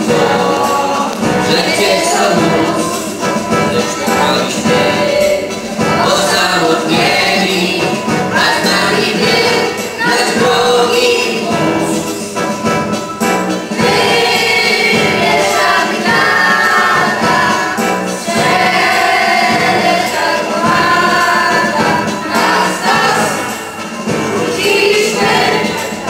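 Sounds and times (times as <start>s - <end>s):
choir of children singing: 0.0s - 26.0s.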